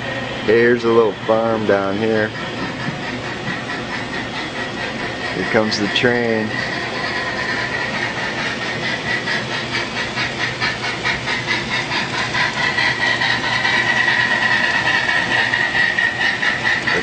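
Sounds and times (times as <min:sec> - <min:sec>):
model train high whine: 0:00.0 - 0:17.0
train clicking on track: 0:00.0 - 0:17.0.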